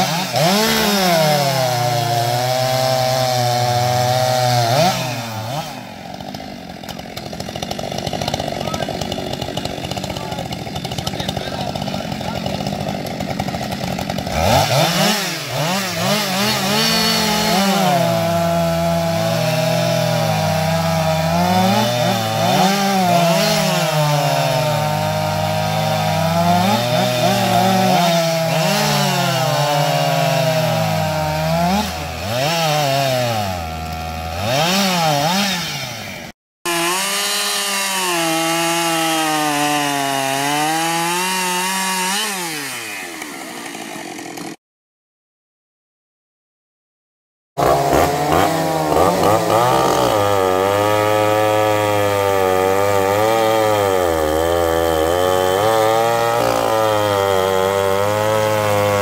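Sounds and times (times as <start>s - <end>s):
chainsaws cutting wood: 0.0s - 44.6s, 47.6s - 59.0s.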